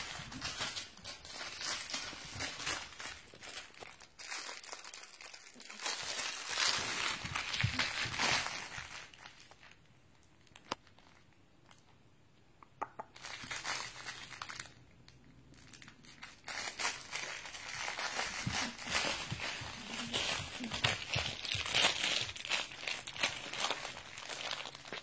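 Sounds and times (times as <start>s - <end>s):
crinkle toy crackling: 0.0s - 12.0s, 13.1s - 25.0s.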